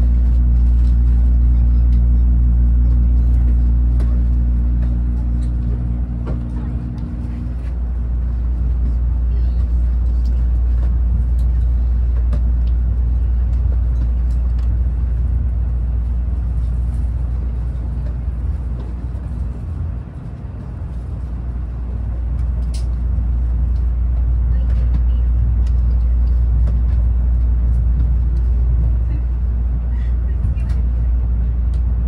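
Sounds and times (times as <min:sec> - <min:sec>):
air and track noise: 0:00.0 - 0:32.0
train wheels rumbling on rail: 0:00.0 - 0:32.0.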